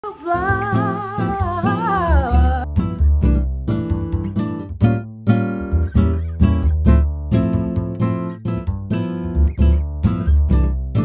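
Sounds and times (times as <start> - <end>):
acoustic guitar strumming chords: 0.2 - 11.0.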